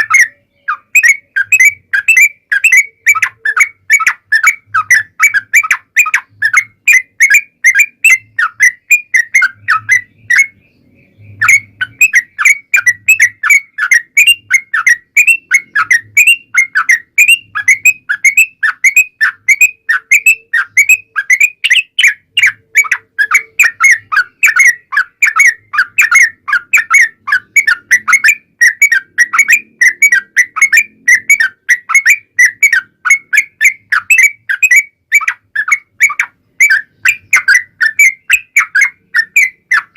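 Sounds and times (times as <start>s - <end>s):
bird singing rapid chattering notes: 0.0s - 39.9s.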